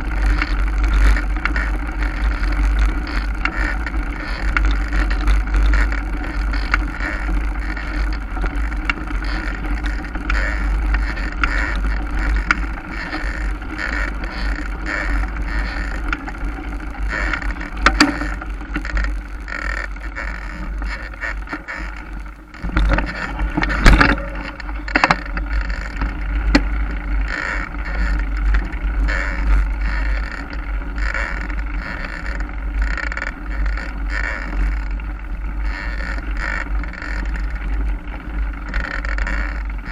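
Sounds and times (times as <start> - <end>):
bike tyre and drivetrain rattle: 0.0 - 39.9
wind rumble on microphone: 0.0 - 39.9.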